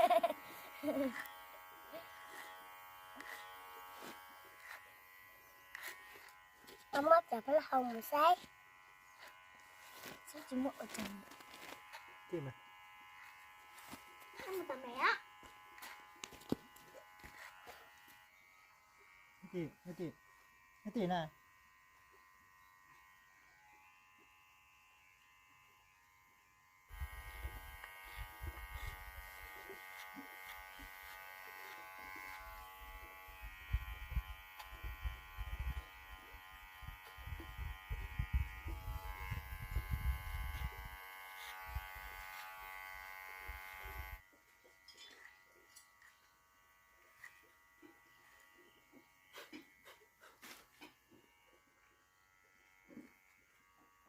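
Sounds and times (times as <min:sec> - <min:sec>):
small motor buzzing: 0:00.0 - 0:54.0.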